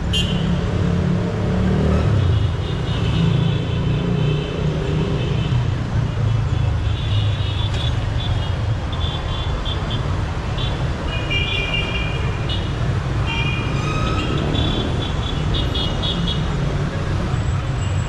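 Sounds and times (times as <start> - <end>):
rumble of traffic engines: 0.0 - 18.0.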